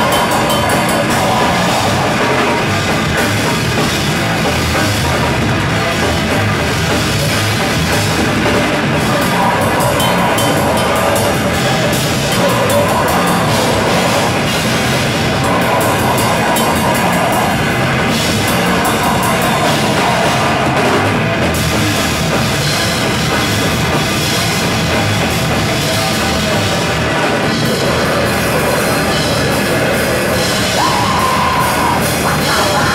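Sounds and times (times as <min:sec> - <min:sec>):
heavy metal band playing: 0:00.0 - 0:32.9.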